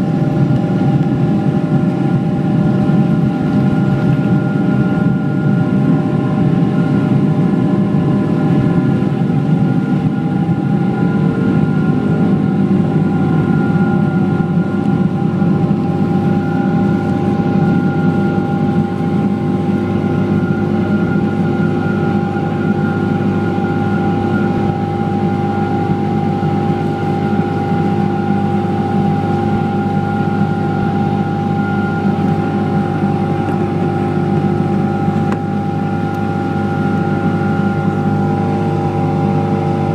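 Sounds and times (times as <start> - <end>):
jet engines at takeoff thrust: 0.0 - 39.9.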